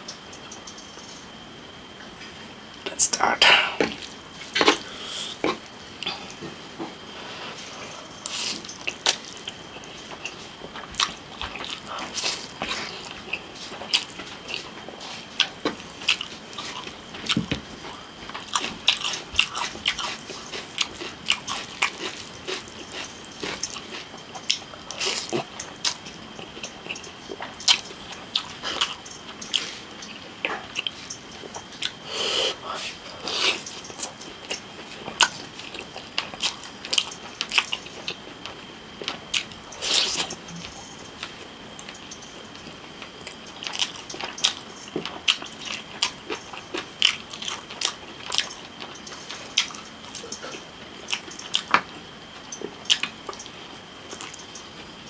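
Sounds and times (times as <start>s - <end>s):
faint high whine: 0.0s - 55.0s
chewing noodles: 7.5s - 54.8s.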